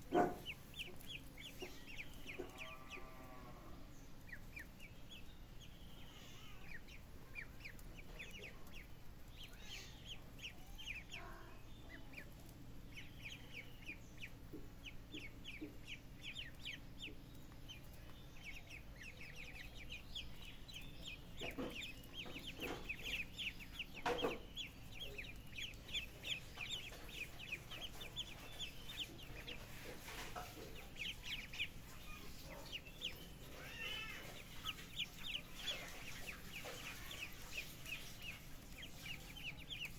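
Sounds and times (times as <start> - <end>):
chickens calling: 0.0 - 39.9
chicks peeping: 0.0 - 39.9.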